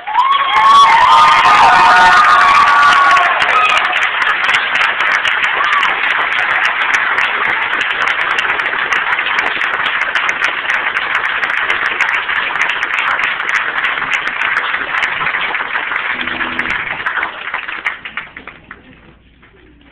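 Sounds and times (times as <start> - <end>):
crowd applauding: 0.0 - 19.9.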